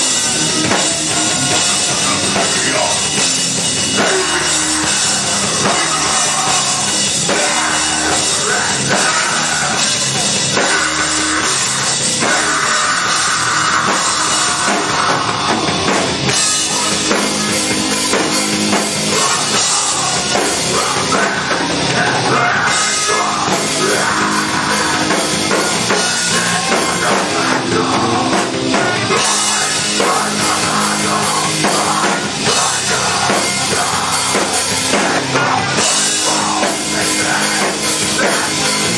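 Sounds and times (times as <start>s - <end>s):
live heavy rock band playing: 0.0s - 38.9s.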